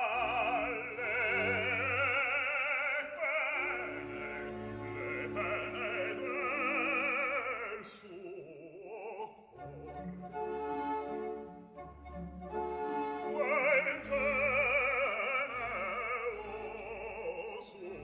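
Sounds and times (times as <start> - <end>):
orchestra playing: 0.0 - 7.8, 9.6 - 17.4
operatic singing: 0.0 - 10.5, 13.2 - 18.0.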